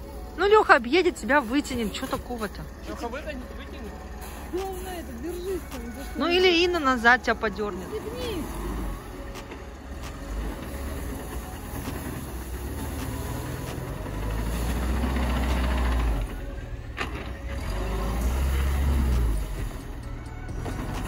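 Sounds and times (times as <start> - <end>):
off-road engine rumbling under load: 0.0 - 21.0.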